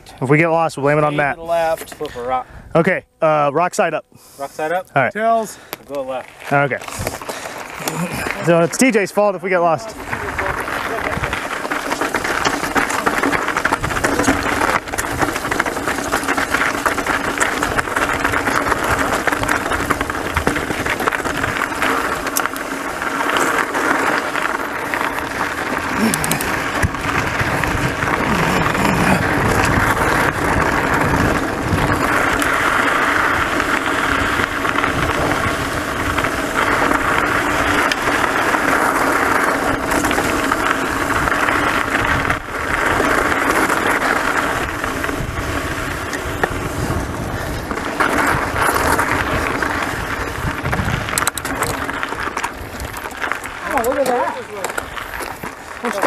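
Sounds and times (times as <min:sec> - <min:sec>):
tyres crunching on gravel: 0:04.8 - 0:56.0
bike rattling and knocking: 0:06.0 - 0:56.0.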